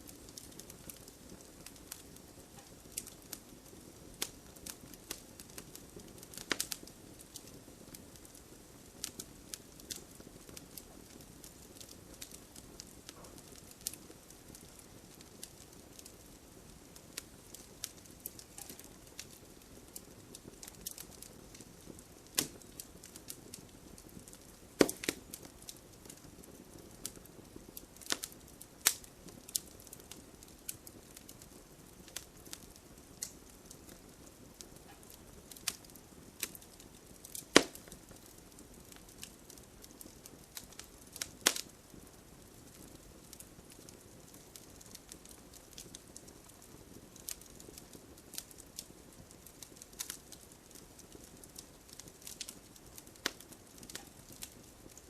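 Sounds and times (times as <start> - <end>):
sharp fire pops: 0.0 - 48.9, 49.5 - 55.0
campfire crackling: 0.0 - 55.0
faint low hiss: 0.0 - 55.0.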